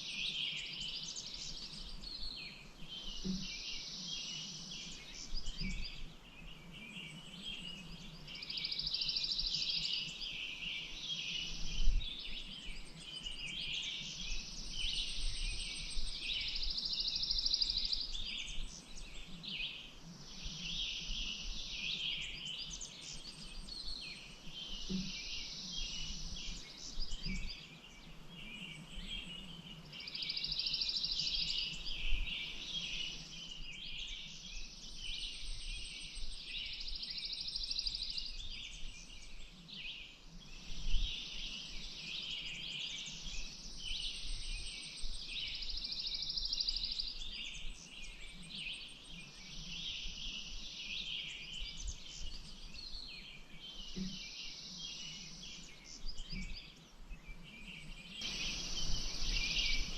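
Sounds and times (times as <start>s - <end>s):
birds singing and chirping: 0.1s - 59.9s.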